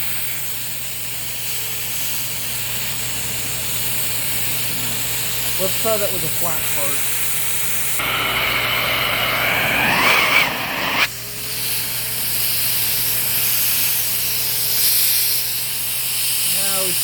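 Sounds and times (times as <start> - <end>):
hiss of leaking air: 0.0 - 17.0
vacuum cleaner running: 0.0 - 17.0.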